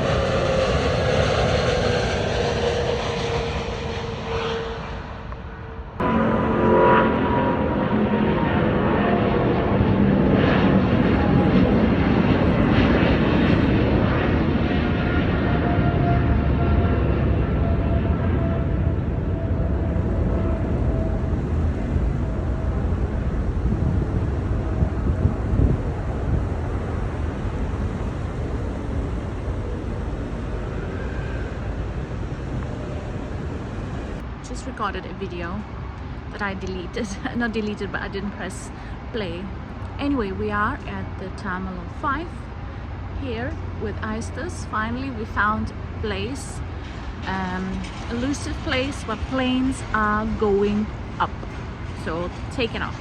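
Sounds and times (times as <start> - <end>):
jet airliner engines: 0.0 - 53.0
wind buffeting microphone: 0.0 - 53.0.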